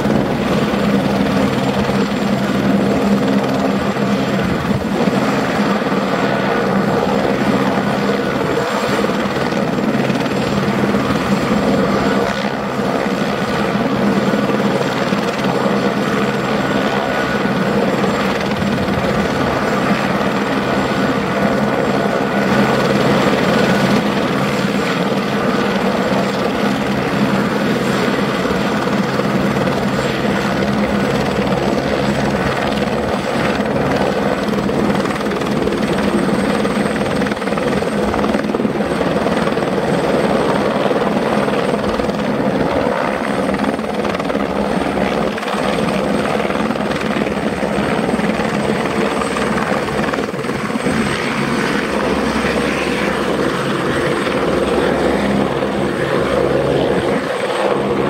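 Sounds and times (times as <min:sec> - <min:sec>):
helicopter rotor blade noise: 0:00.0 - 0:58.0
helicopter turbine whine: 0:00.0 - 0:58.0.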